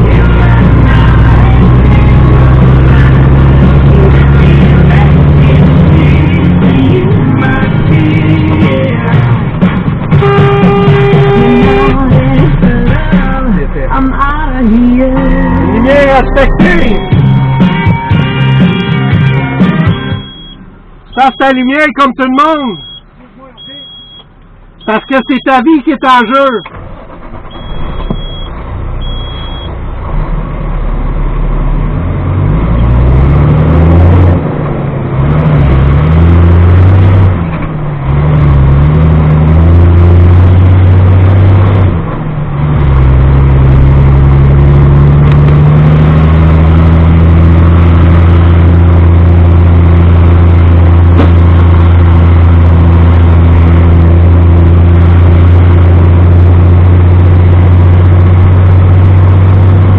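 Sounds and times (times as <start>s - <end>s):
truck engine shifting gears: 0.0s - 59.9s.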